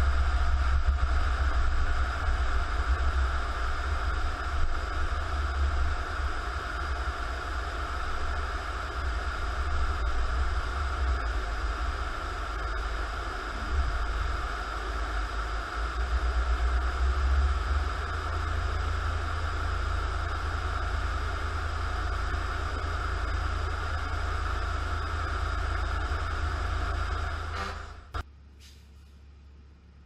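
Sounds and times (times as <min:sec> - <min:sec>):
road noise: 0:00.0 - 0:28.2
vehicle engine rumble: 0:00.0 - 0:29.3.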